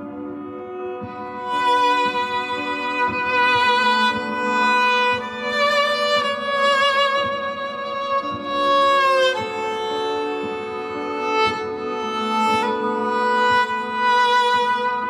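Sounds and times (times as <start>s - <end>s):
bowed viola notes: 0.0s - 15.0s.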